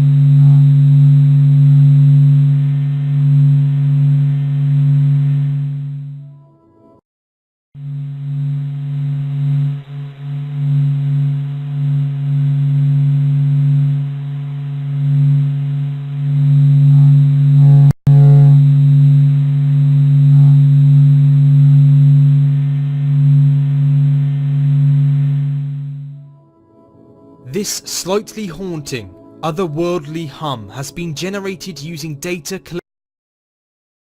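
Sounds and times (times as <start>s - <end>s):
deep electronic hum: 0.0s - 6.6s, 7.8s - 30.7s.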